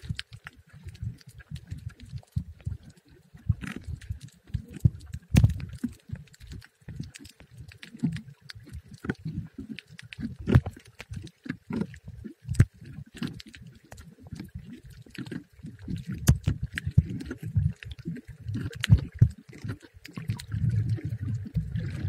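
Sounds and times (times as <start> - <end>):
muffled underwater water thumps: 0.0 - 6.3, 8.0 - 22.0
sharp crackling clicks: 0.0 - 22.0.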